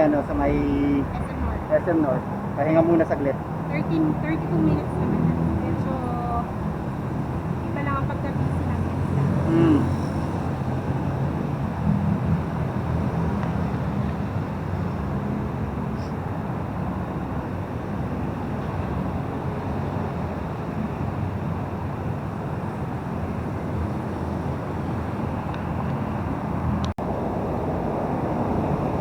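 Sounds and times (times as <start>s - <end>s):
heavy traffic rumble: 0.0s - 29.0s.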